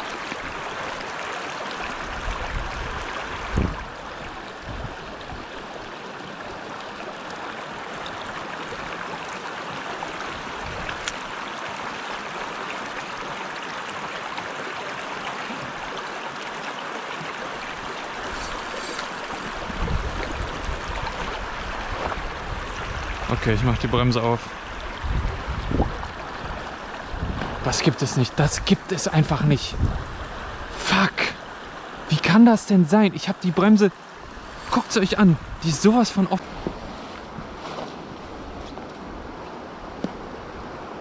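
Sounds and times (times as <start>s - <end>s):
river rushing over stones: 0.0s - 41.0s.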